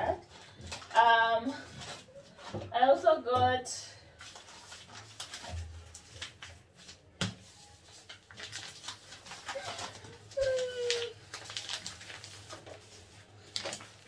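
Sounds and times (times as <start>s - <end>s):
paper packets rustling: 0.2s - 2.6s, 4.1s - 14.0s.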